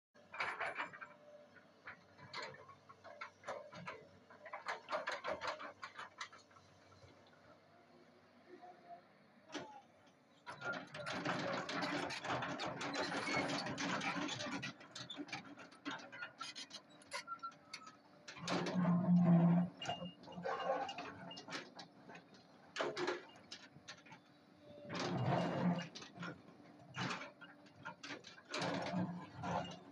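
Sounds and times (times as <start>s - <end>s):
excavator engine hum: 0.2s - 29.9s.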